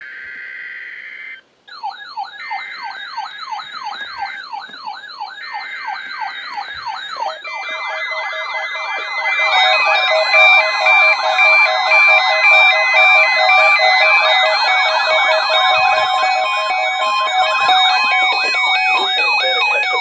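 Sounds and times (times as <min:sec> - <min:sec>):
electronic siren steady tone: 0:00.0 - 0:20.0
siren yelp sweeping: 0:00.1 - 0:20.0.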